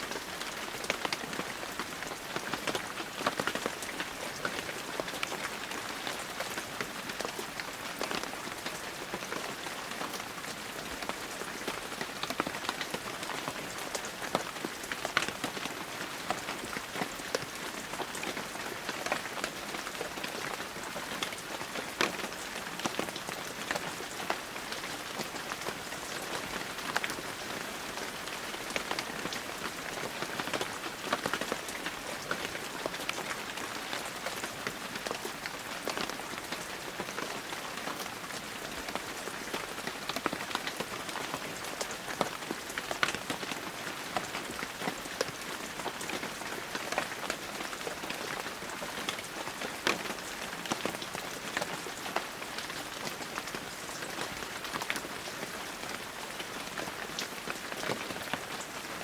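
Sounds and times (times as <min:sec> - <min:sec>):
heavy rain falling: 0:00.0 - 0:59.0
raindrops pattering and tapping: 0:00.0 - 0:59.0.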